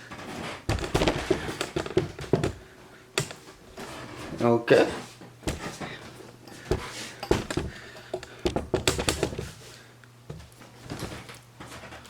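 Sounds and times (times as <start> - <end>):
handling knocks and clicks: 0.1 - 4.4, 5.2 - 12.0.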